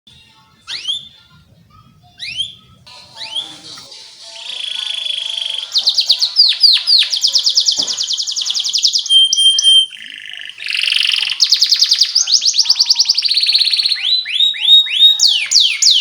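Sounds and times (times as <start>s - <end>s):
canary singing: 0.1s - 16.0s.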